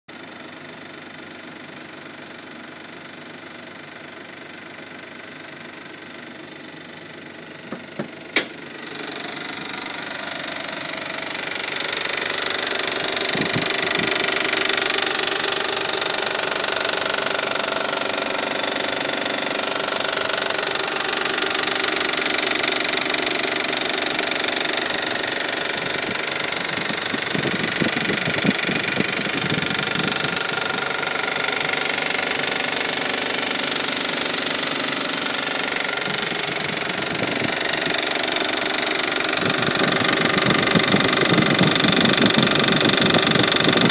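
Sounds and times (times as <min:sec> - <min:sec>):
engine ticking and knocking: 0:00.1 - 0:43.9.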